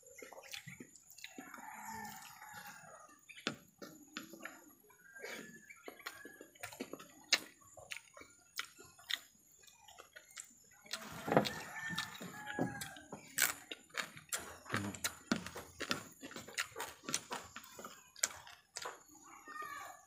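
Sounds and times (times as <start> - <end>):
person chewing and lip smacking: 0.0 - 19.2.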